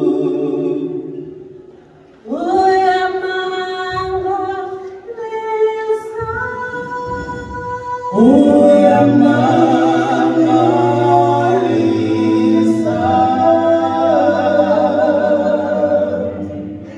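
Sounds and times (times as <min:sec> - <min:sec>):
vocal group singing a cappella: 0:00.0 - 0:16.9.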